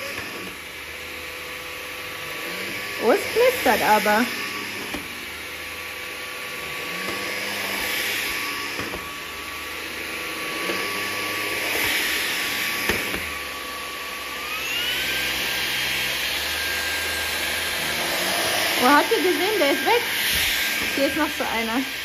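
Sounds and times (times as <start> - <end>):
vacuum motor whining: 0.0 - 22.0.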